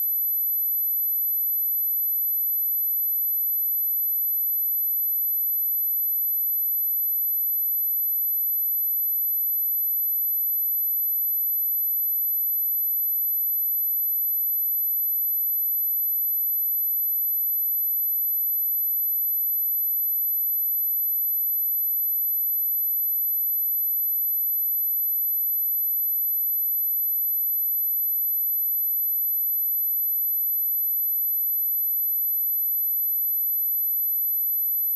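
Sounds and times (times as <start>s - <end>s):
high-pitched sine test tone: 0.0s - 34.9s.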